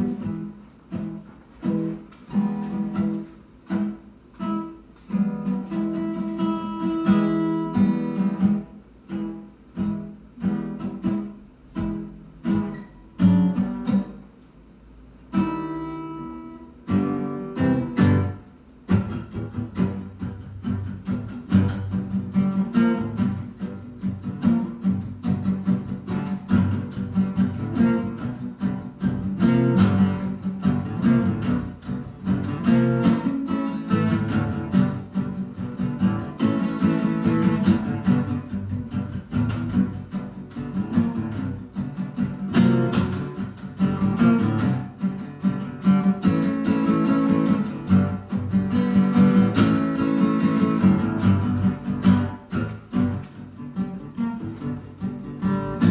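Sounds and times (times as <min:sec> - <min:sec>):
acoustic guitar playing: 0:00.0 - 0:55.9.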